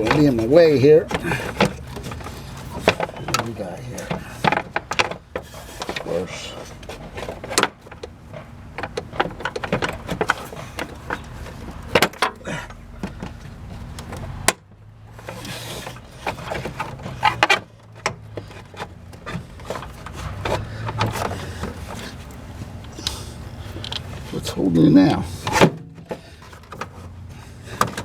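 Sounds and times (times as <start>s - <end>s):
plastic and metal parts rattling: 0.0s - 28.0s.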